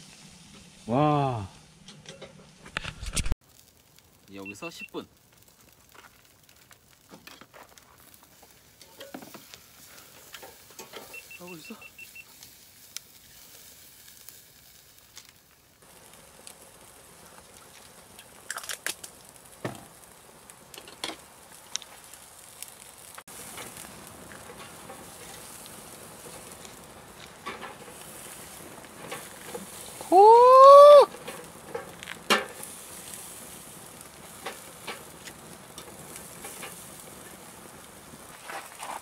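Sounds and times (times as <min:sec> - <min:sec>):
ribs sizzling on charcoal grill: 0:00.0 - 0:39.0.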